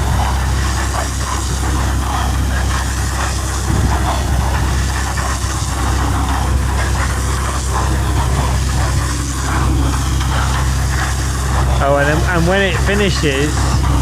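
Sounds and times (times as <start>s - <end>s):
tractor engine droning: 0.0s - 14.0s.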